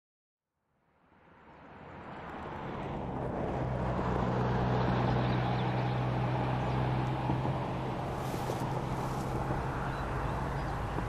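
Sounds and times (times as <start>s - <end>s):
road and wind noise: 0.6s - 11.0s
vehicle engine hum: 1.0s - 11.0s.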